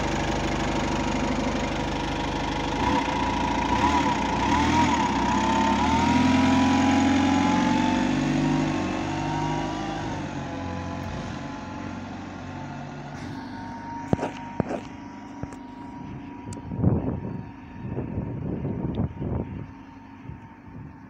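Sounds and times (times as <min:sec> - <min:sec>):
bus engine pulling away: 0:00.0 - 0:21.0.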